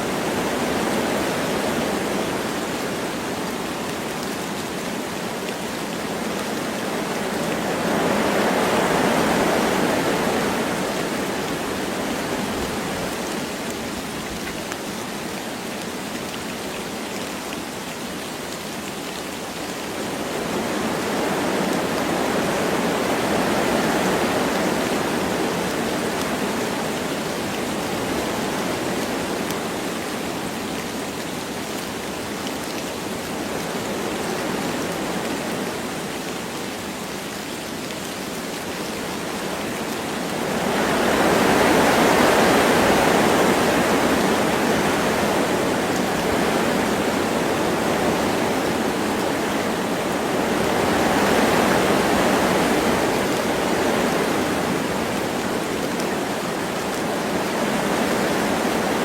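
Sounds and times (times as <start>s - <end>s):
light rain: 0.0s - 59.0s
wind rushing through trees: 0.0s - 59.0s.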